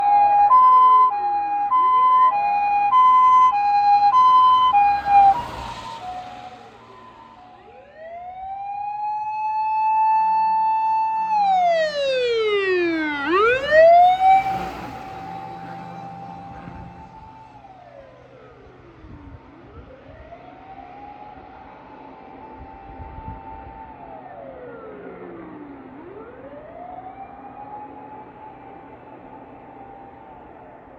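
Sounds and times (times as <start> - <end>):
two-note hi-lo siren: 0.0 - 30.9
wailing siren: 0.0 - 30.9.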